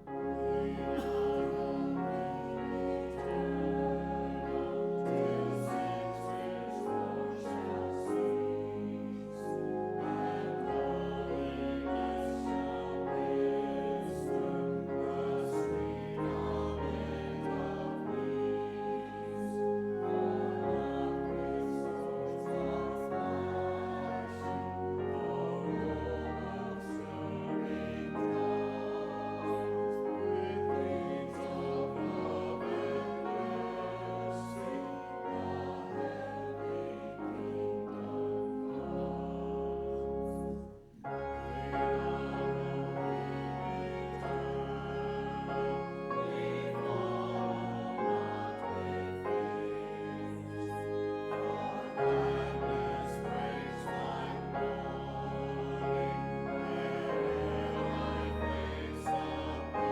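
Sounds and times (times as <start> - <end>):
congregation singing a hymn: 0.0 - 59.9
instrumental accompaniment: 0.0 - 59.9.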